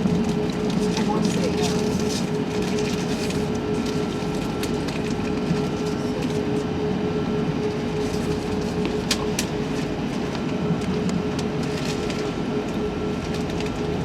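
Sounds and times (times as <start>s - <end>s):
aircraft cabin rumble and hiss: 0.0s - 14.0s
steady hum: 0.0s - 14.0s.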